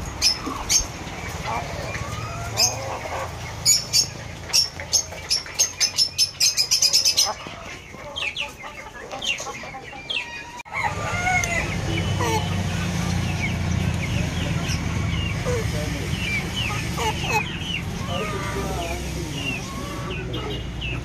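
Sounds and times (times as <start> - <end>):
chickens chirping: 0.0 - 21.0.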